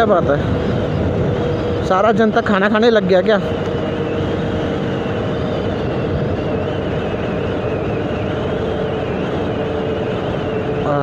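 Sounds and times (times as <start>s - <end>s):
scooter engine running: 0.0s - 11.0s
wind and road noise: 0.0s - 11.0s.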